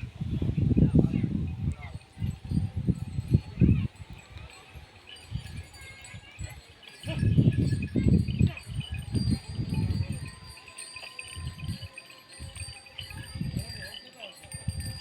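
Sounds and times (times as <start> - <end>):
small animal bells jingling: 0.0 - 15.0.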